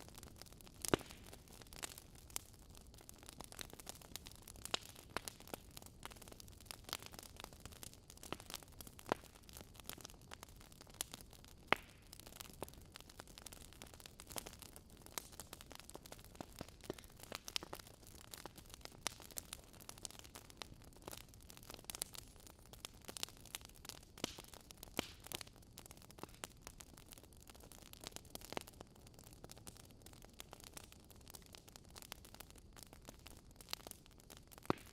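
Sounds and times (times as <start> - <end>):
fire crackling: 0.0 - 34.9.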